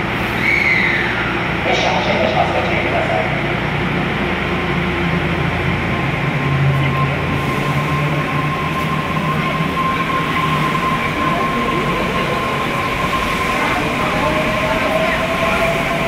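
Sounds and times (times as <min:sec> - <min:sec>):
monorail train whining: 0:00.0 - 0:16.0.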